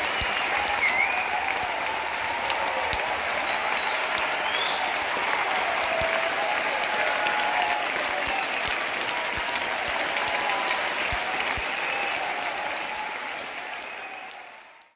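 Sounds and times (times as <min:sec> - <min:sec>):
crowd applauding and cheering: 0:00.0 - 0:14.9
shouts and whoops: 0:00.0 - 0:14.9.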